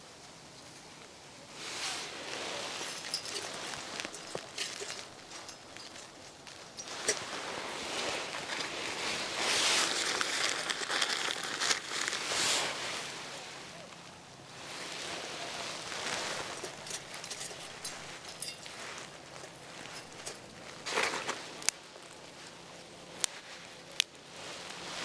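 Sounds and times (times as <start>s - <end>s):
dry rustling and crinkling: 0.6s - 25.0s.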